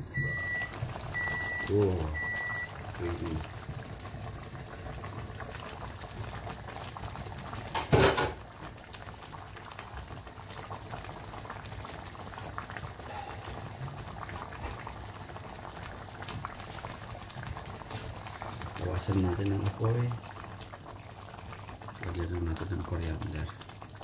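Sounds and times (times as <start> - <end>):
sauce bubbling in pan: 0.0 - 24.0.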